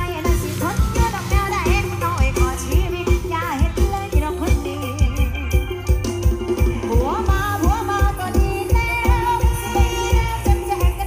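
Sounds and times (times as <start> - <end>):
electronic keyboard melody: 0.0 - 11.0.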